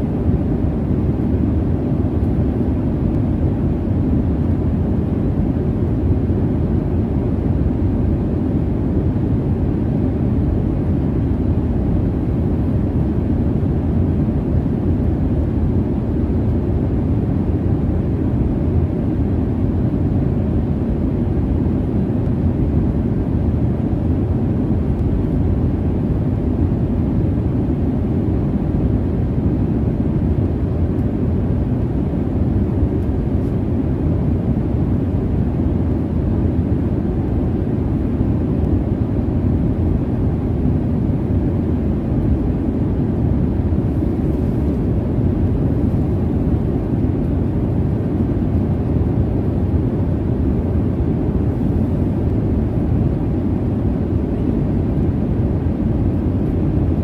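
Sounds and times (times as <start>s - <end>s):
airliner cabin engine hum: 0.0s - 57.0s.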